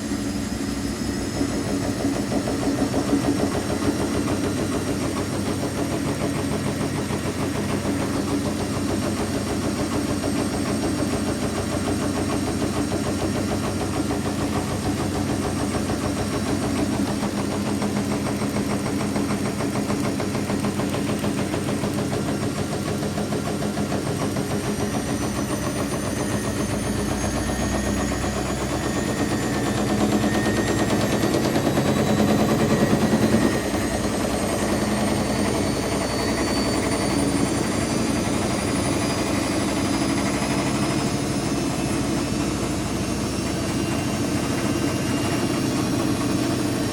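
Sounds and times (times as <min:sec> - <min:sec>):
high motor whine: 0:00.0 - 0:46.9
washing machine spinning: 0:00.0 - 0:46.9.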